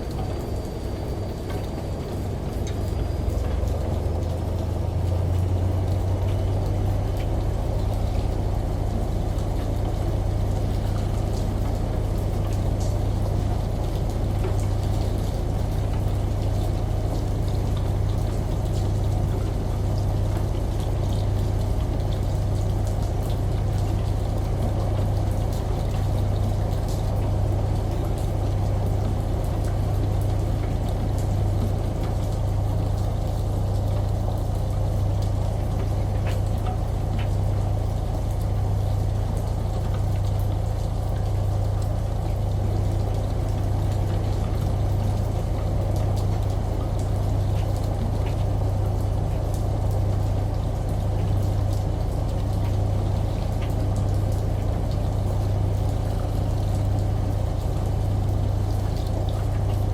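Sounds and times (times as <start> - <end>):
running water: 0.0 - 59.9
washing machine humming: 0.0 - 59.9.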